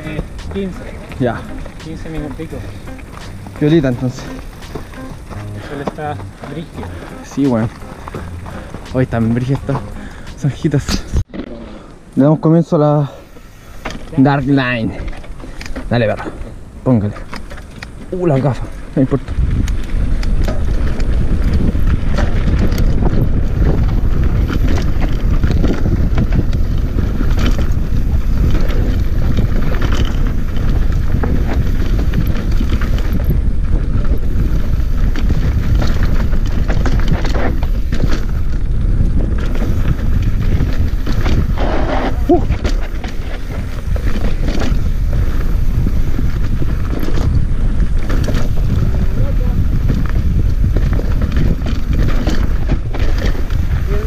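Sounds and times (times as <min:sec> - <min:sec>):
wind rumble on microphone: 0:00.0 - 0:11.3, 0:13.8 - 0:54.0
bike rattling over rocks: 0:00.0 - 0:11.5, 0:13.8 - 0:54.0.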